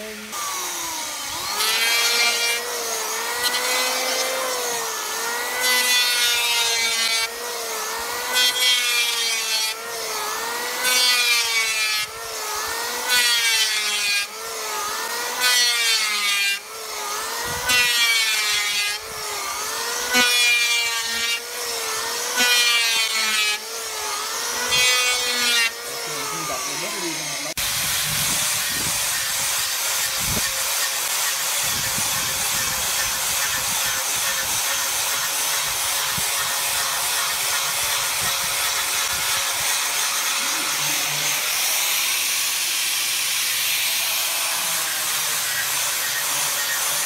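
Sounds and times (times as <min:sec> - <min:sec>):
power planer shaving wood: 0:00.0 - 0:47.0.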